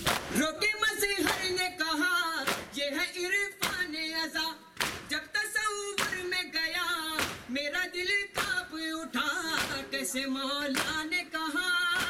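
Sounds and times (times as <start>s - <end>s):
crowd slapping chests in unison: 0.0s - 1.7s, 2.4s - 12.0s.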